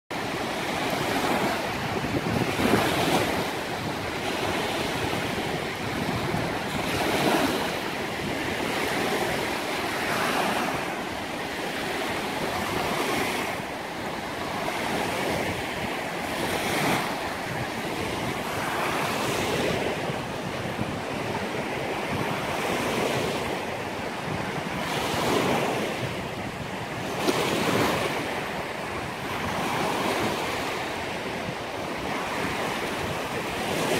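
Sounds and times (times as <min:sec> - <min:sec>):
small waves breaking on beach: 0:00.1 - 0:33.9.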